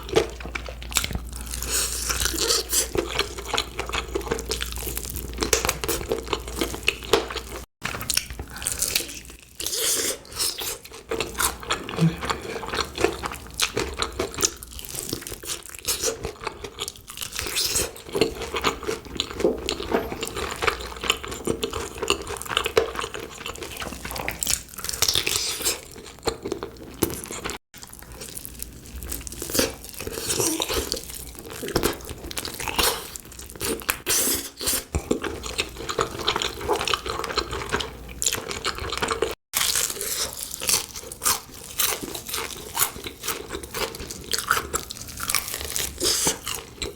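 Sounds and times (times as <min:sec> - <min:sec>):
person chewing and crunching food: 0:00.0 - 0:46.9.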